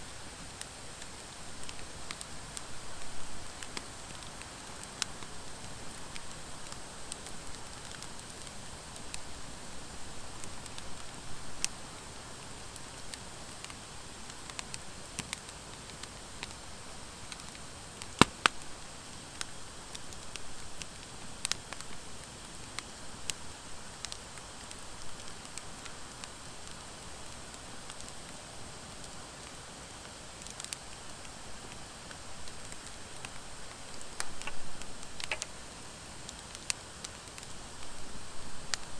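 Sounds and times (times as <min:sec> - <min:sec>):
fire hiss: 0:00.0 - 0:38.9
wood fire crackling and popping: 0:00.3 - 0:09.8, 0:10.4 - 0:38.0.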